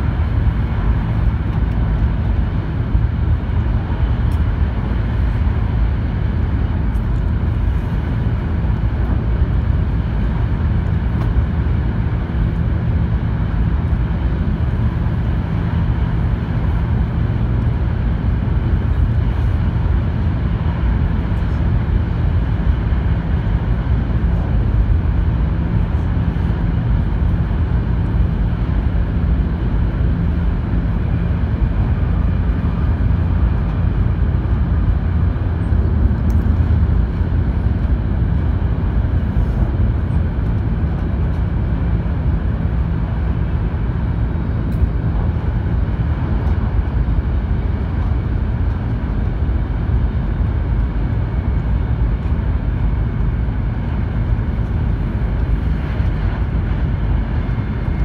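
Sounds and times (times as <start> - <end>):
train cabin rumble: 0.0 - 58.0.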